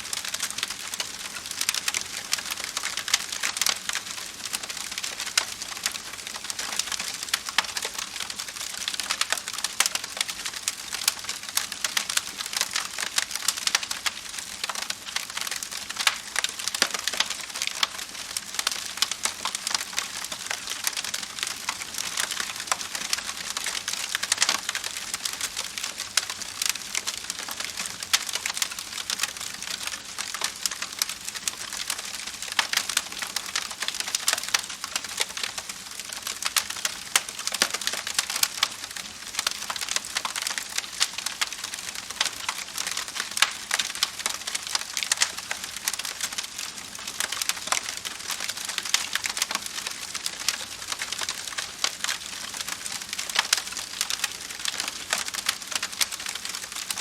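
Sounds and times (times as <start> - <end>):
campfire crackling: 0.1 - 57.0.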